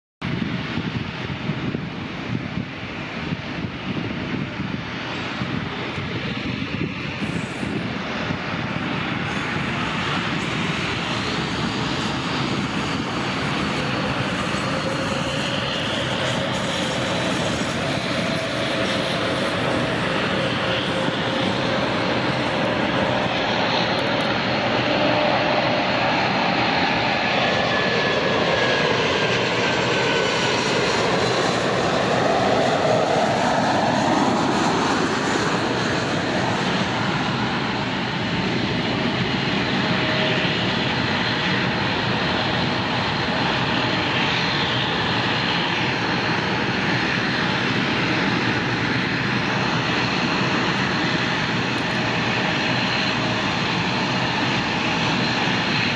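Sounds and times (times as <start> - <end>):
jet airliner passing: 0.2 - 55.9.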